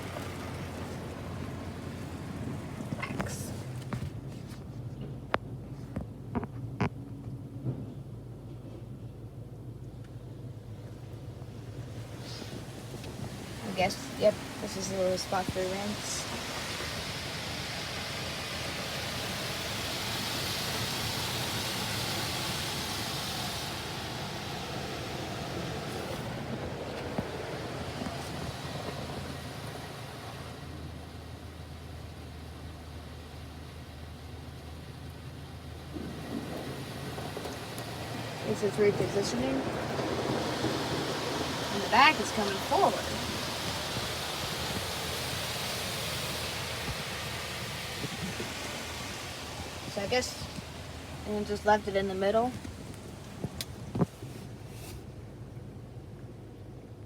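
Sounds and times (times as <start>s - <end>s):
water spraying onto car: 0.0s - 4.6s, 10.6s - 55.8s
low hum of wash machinery: 0.0s - 57.0s.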